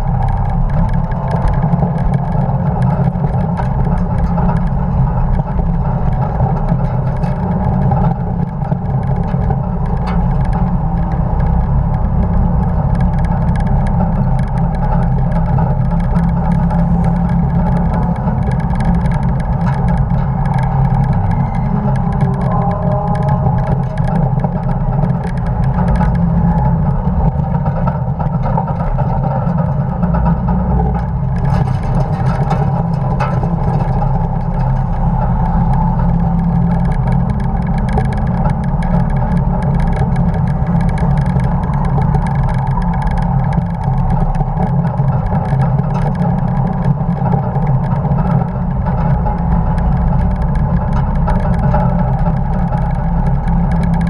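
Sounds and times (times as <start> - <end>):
racing truck engine: 0.0 - 54.0.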